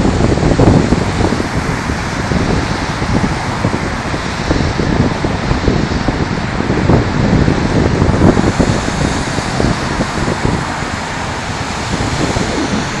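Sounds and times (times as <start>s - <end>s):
storm waves breaking: 0.0s - 13.0s
wind buffeting microphone: 0.0s - 13.0s.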